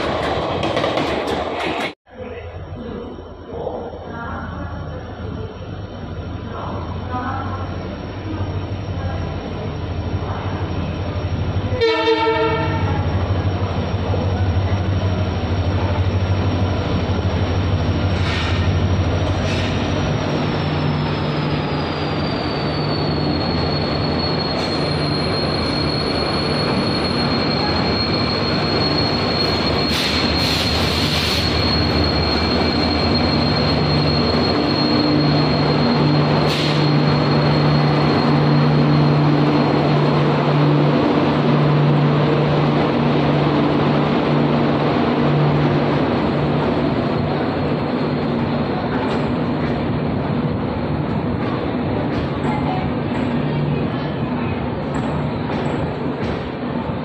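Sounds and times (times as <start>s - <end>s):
train wheels rolling: 0.0s - 2.0s, 12.5s - 57.0s.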